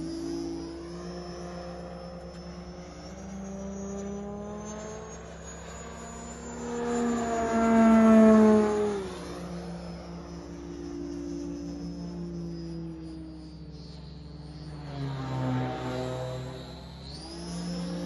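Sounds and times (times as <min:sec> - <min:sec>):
model plane motor whine: 0:00.0 - 0:18.0.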